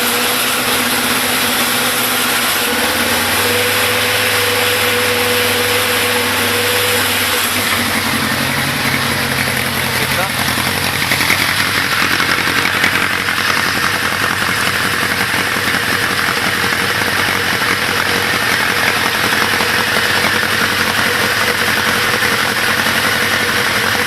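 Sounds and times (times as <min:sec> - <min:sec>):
motorcycle engine idling with clatter: 0:00.0 - 0:24.0.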